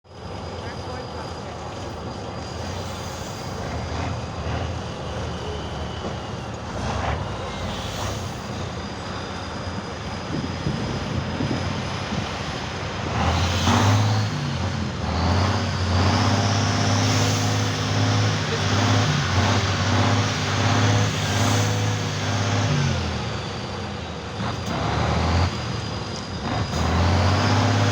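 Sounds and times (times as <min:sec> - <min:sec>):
truck engine revving off-road: 0:02.4 - 0:27.9.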